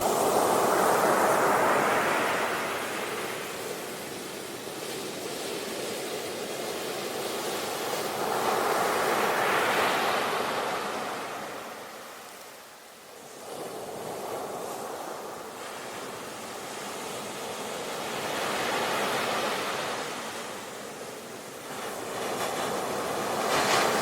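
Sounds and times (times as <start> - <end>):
ocean waves crashing on shore: 0.0 - 24.0.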